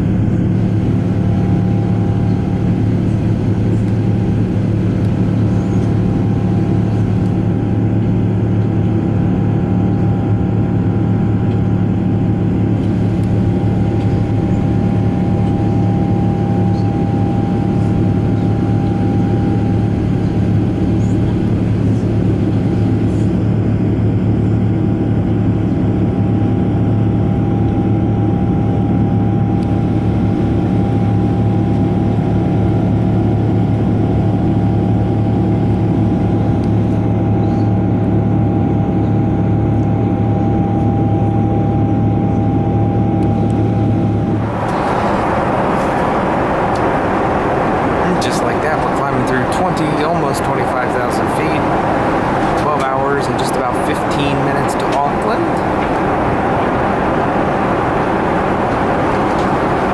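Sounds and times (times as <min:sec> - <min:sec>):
faint steady whine: 0:00.0 - 0:24.7, 0:29.6 - 0:37.7, 0:41.1 - 0:59.9
aircraft cabin engine drone: 0:00.0 - 0:59.9.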